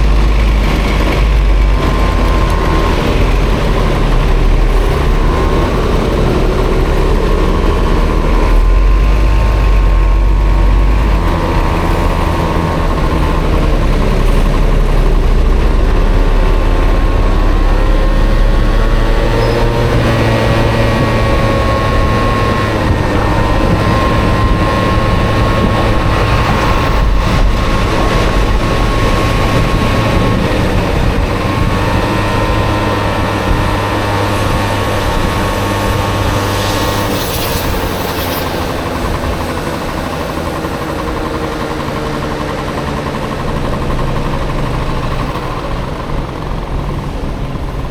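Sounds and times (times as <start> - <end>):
scooter engine running: 0.0 - 47.9.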